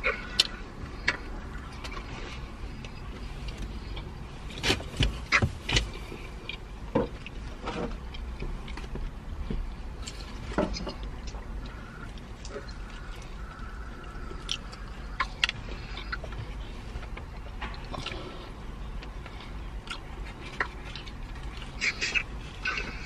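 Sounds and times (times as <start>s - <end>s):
steady low rumble: 0.0s - 23.0s
fried chicken being chewed: 0.3s - 23.0s.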